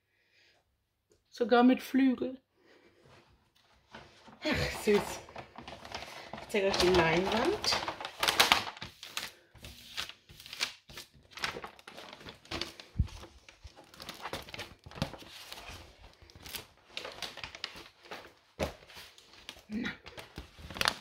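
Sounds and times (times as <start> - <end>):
plastic film and paper crinkling: 3.8 - 21.0.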